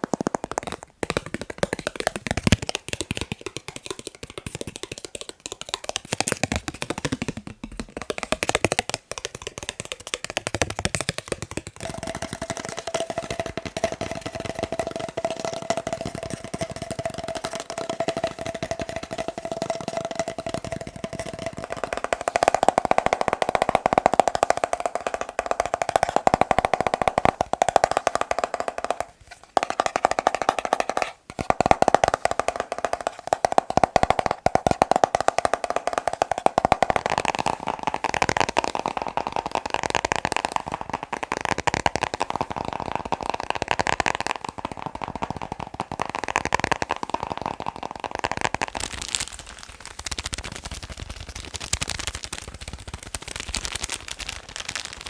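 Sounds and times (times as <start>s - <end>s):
rapid tapping on hard objects: 0.0s - 55.0s.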